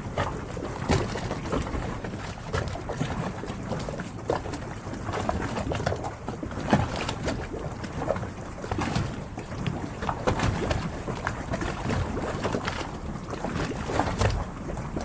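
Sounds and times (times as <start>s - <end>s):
water lapping against boat hulls: 0.0s - 15.0s.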